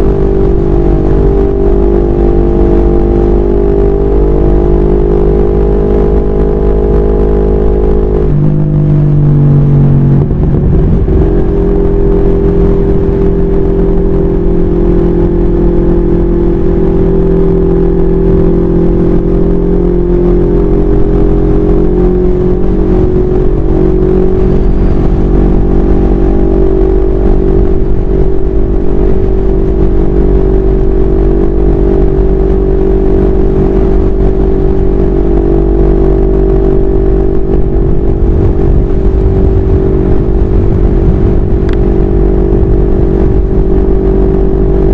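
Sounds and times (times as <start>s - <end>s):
motorcycle engine at speed: 0.0s - 44.9s.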